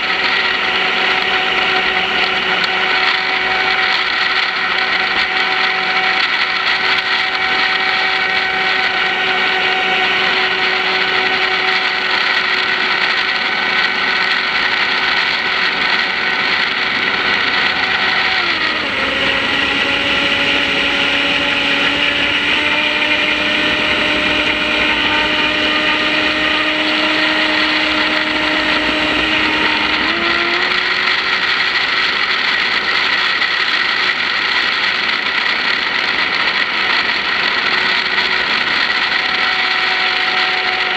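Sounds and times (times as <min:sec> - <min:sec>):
electric motor whining: 0:00.0 - 0:40.9
water hissing: 0:00.0 - 0:40.9.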